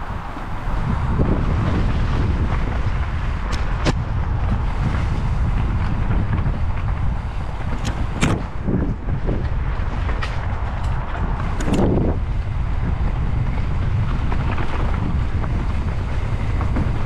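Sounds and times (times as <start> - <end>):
bike tyres rumbling on dirt: 0.0 - 17.0
wind buffeting microphone: 0.0 - 17.0.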